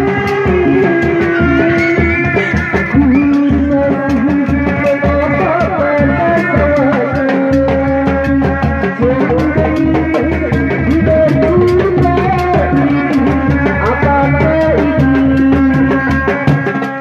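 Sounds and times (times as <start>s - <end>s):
steady drum beat: 0.0s - 17.0s
woman singing through a microphone: 0.0s - 17.0s.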